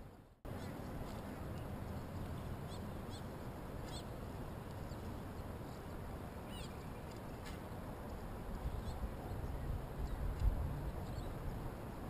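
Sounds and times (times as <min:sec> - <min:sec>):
wind: 0:00.0 - 0:12.0
birds chirping: 0:00.5 - 0:07.5, 0:08.6 - 0:11.7.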